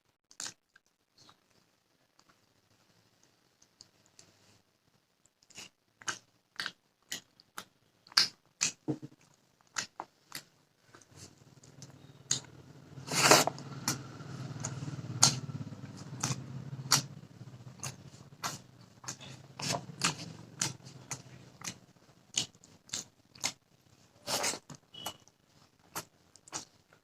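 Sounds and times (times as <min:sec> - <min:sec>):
person chewing food: 0:00.2 - 0:04.6, 0:05.2 - 0:27.0.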